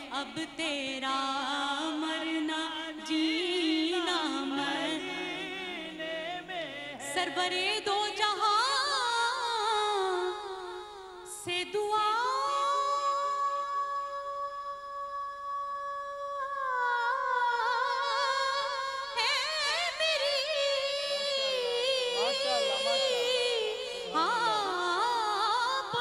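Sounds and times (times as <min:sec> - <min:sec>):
woman singing into microphone: 0:00.0 - 0:26.0.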